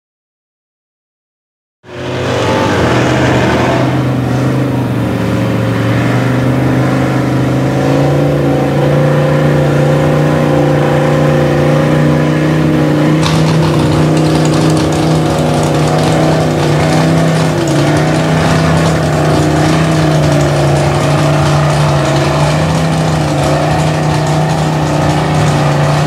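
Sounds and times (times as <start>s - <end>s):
truck engine revving: 1.8s - 26.0s.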